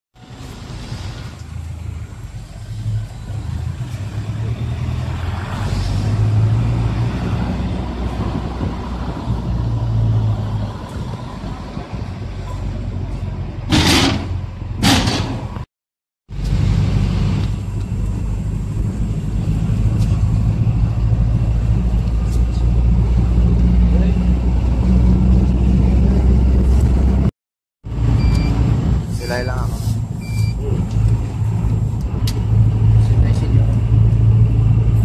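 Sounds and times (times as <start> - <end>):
bus engine rumble: 0.2 - 15.6, 16.3 - 27.3, 27.9 - 35.0.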